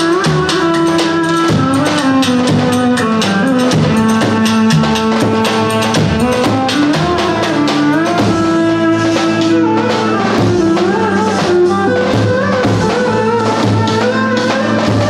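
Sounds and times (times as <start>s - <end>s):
held instrumental melody: 0.0s - 15.0s
steady drum beat: 0.0s - 15.0s.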